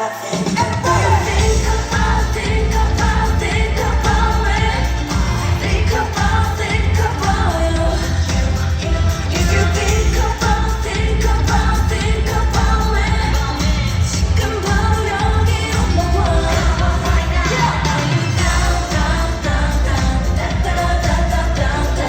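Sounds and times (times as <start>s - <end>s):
pop backing track with heavy bass: 0.0s - 22.0s
woman singing: 0.0s - 22.0s.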